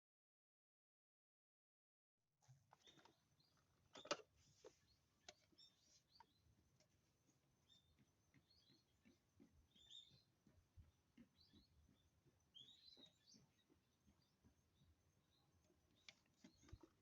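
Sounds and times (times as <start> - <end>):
small birds chirping: 2.4 - 17.0.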